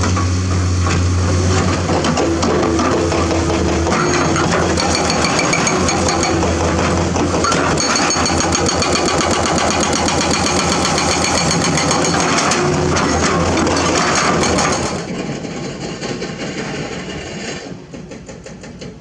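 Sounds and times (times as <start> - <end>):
diesel engine running: 0.0 - 17.1.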